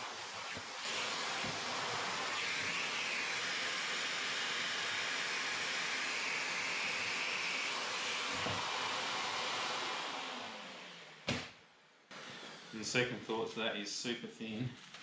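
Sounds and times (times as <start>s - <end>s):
shop vacuum running: 0.0s - 11.5s, 12.1s - 13.4s.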